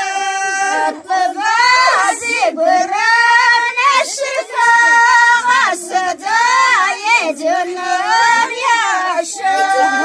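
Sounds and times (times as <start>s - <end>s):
person singing unaccompanied: 0.0s - 10.0s.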